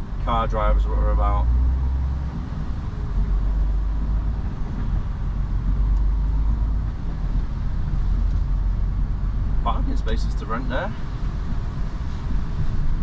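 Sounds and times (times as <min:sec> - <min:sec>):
diesel engine rumble: 0:00.0 - 0:13.0
road noise: 0:00.0 - 0:13.0.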